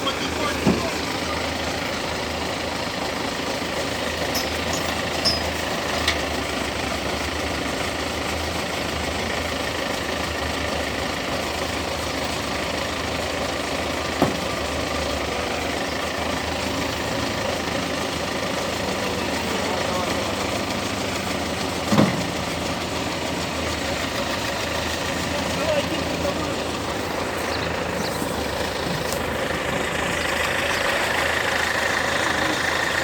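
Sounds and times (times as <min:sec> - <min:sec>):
farm machinery engine drone: 0:00.0 - 0:33.0.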